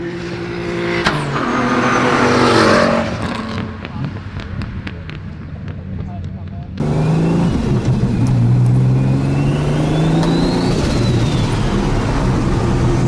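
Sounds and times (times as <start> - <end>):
race car accelerating: 0.0 - 13.0
engine pops: 0.9 - 13.0.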